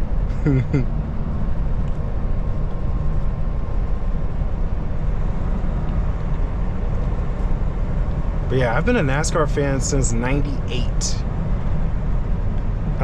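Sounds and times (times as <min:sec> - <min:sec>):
road noise inside cab: 0:00.0 - 0:13.0
truck engine rumble: 0:00.0 - 0:13.0.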